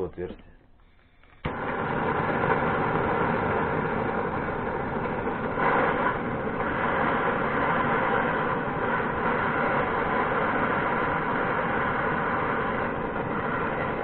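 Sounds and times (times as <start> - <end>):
gas torch hissing: 1.2 - 14.0.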